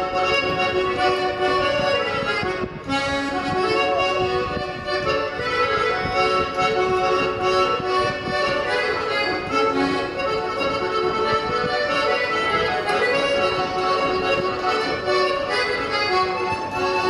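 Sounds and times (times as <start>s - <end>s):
folk dance music: 0.0s - 17.0s.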